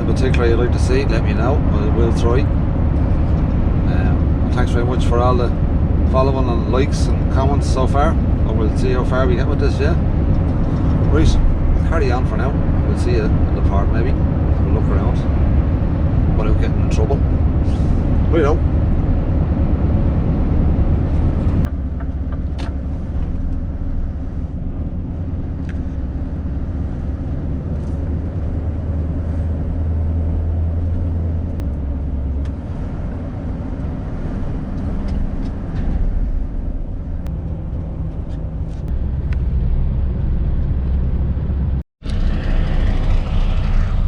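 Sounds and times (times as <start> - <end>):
diesel lorry engine drone: 0.0 - 44.0
road noise: 0.0 - 44.0.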